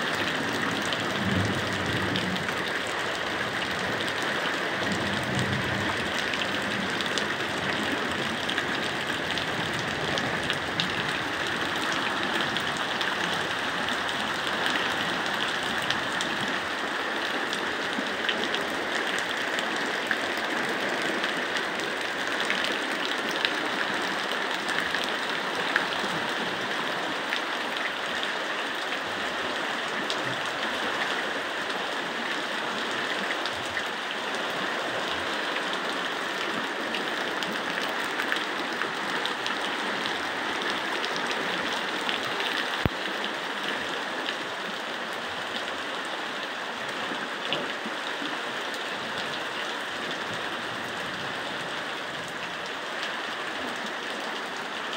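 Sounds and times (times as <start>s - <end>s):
heavy rain falling: 0.0s - 54.9s
stream rushing in flood: 0.0s - 54.9s.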